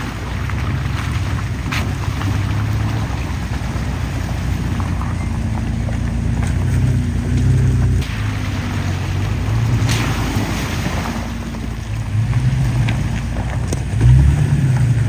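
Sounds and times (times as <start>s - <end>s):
vehicle engine and drivetrain rumble: 0.0s - 15.0s.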